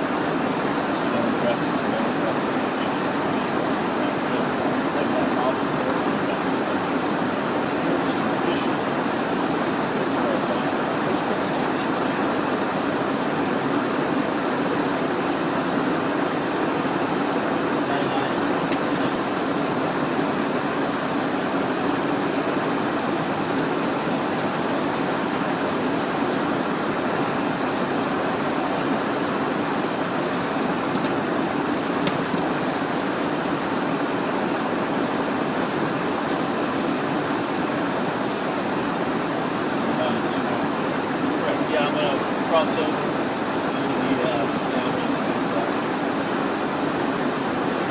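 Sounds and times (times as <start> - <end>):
airflow rushing in jet cabin: 0.0 - 47.9
jet engines droning: 0.0 - 47.9.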